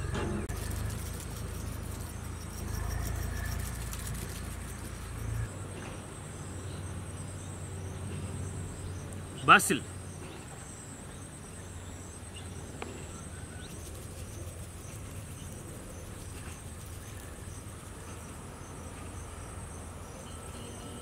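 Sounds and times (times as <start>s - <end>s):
insects trilling: 0.2s - 21.0s.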